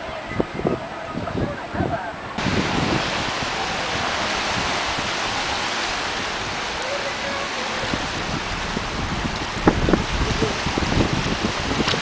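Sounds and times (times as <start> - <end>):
waves washing on sand: 0.0 - 12.0.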